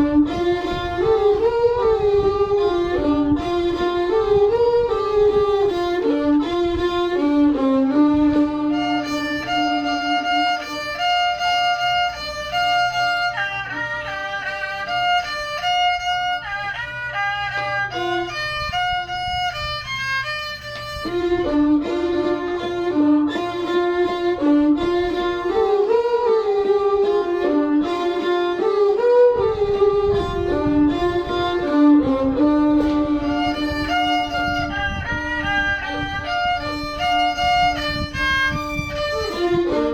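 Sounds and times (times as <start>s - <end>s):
bowed string instrument melody: 0.0s - 39.9s.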